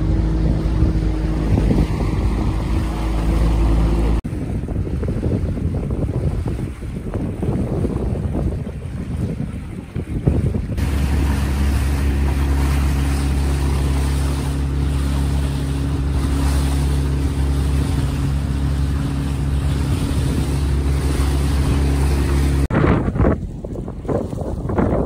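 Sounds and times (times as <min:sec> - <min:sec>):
boat engine running: 0:00.0 - 0:25.0
water rushing: 0:00.0 - 0:25.0
wind gusts on microphone: 0:00.0 - 0:25.0.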